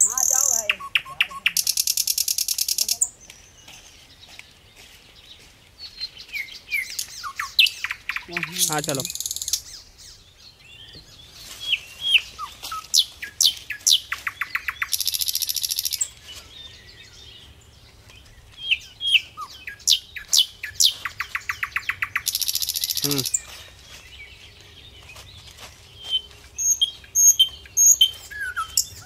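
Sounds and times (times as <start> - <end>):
bird trill: 0.0 - 3.2, 5.8 - 17.2, 18.6 - 24.4, 25.1 - 29.0.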